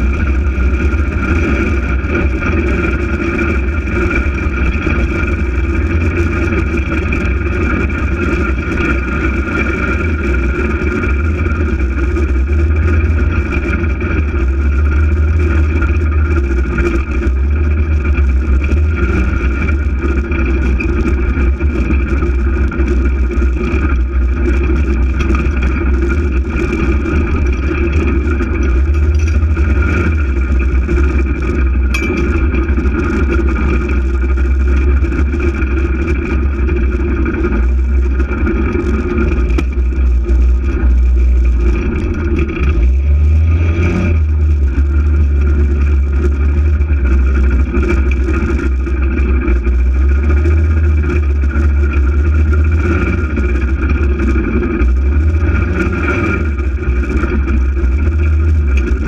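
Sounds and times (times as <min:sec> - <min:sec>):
engine drone: 0:00.0 - 0:59.0
steady high whine: 0:00.0 - 0:59.0.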